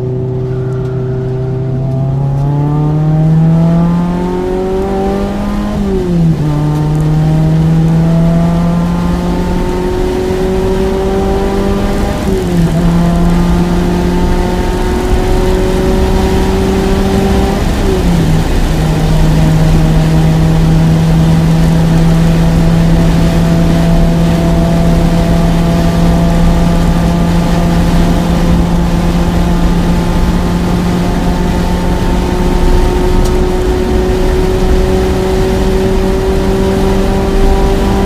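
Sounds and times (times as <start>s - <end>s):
car engine pulling hard: 0.0s - 38.0s
road noise: 0.0s - 38.0s
wind noise: 0.0s - 38.0s.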